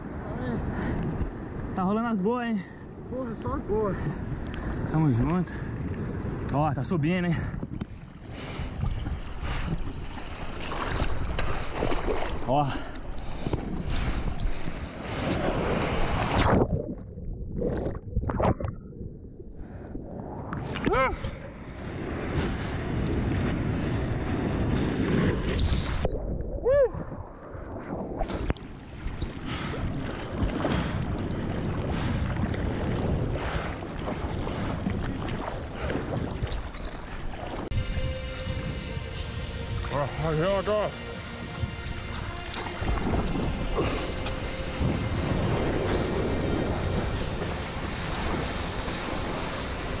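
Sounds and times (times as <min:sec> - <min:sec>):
wind rumble on microphone: 0:00.0 - 0:40.6, 0:41.2 - 0:50.0
sea water splashing and rushing: 0:00.0 - 0:50.0.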